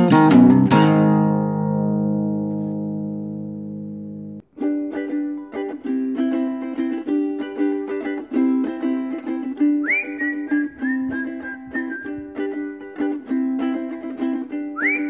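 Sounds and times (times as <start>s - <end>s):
plucked string tune: 0.0s - 15.0s.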